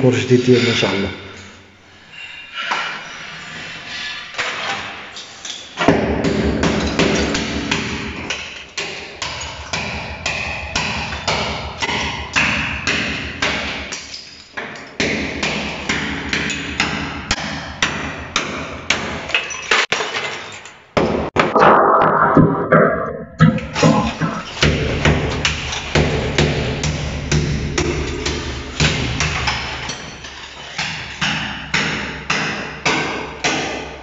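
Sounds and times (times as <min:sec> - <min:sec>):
hammer knocking tiles off wall: 0:05.8 - 0:34.0.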